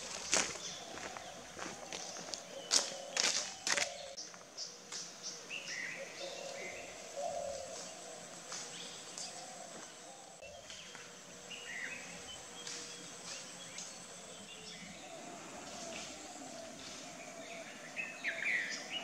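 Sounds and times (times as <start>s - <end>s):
birds chirping: 0.0s - 19.0s
faint high insect drone: 0.0s - 19.0s
steady background hum: 0.0s - 19.0s.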